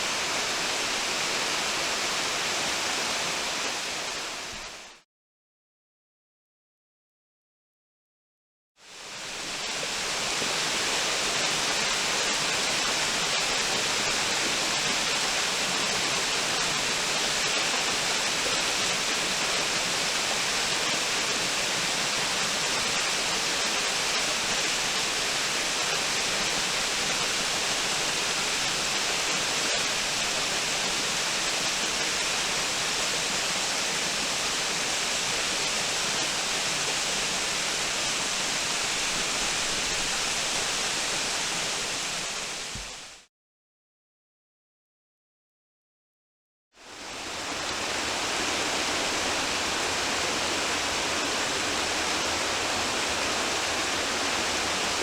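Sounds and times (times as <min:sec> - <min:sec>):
waterfall rushing: 0:00.0 - 0:05.0, 0:09.2 - 0:43.2, 0:46.8 - 0:55.0.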